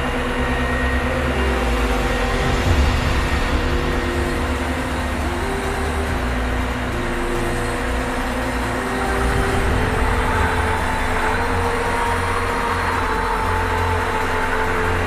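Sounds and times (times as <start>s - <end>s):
hydraulic whine: 0.0s - 15.0s
truck engine rumbling: 0.0s - 15.0s.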